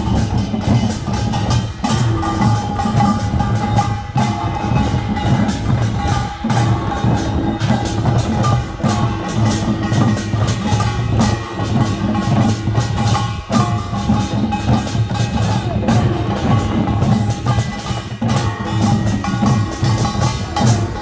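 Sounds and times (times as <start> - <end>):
percussion band drums and gongs: 0.0 - 21.0.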